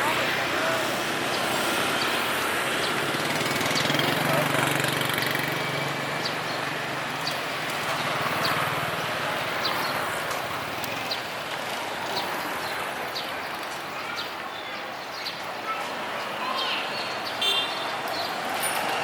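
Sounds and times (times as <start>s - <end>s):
market hubbub: 0.0s - 19.0s.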